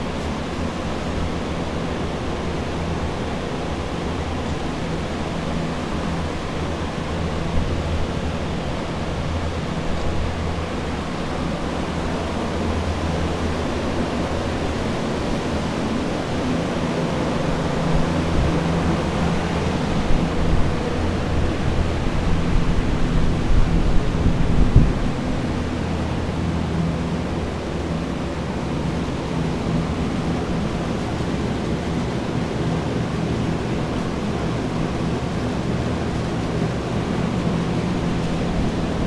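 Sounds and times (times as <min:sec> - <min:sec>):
air movers whooshing hum: 0:00.0 - 0:39.0.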